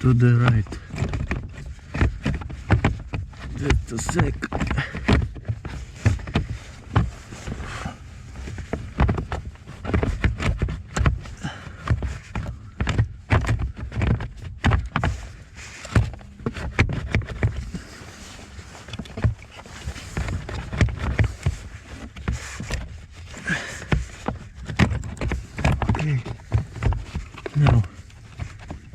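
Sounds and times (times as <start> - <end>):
hard plastic parts knocking: 0.0 - 18.1, 18.8 - 28.9.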